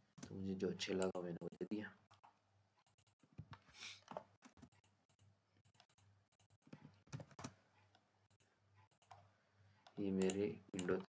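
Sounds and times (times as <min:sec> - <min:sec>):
computer mouse clicks: 0:02.1 - 0:11.0.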